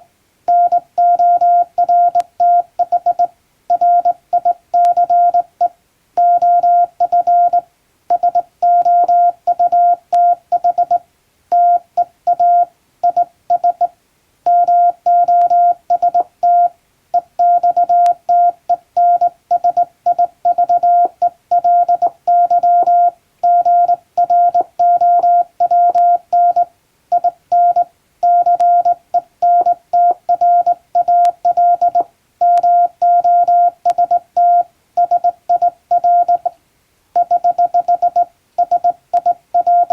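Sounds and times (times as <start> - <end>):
morse code beeps: 0.5 - 13.9, 14.5 - 36.5, 37.2 - 39.9.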